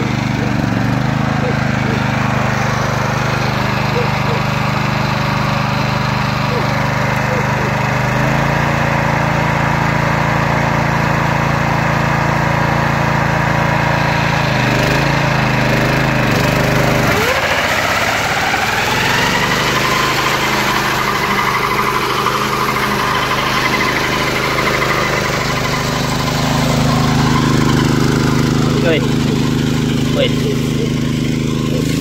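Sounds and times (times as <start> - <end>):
small petrol engine running: 0.0 - 32.0.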